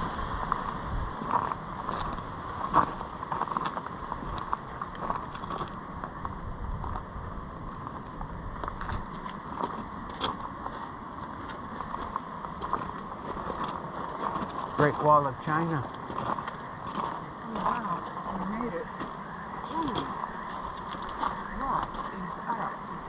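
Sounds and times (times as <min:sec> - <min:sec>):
steady rushing noise: 0:00.0 - 0:23.0
wind buffeting microphone: 0:00.0 - 0:23.0.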